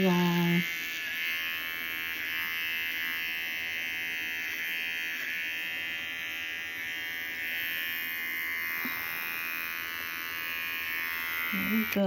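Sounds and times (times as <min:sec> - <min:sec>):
electric shaver buzzing: 0:00.0 - 0:12.0.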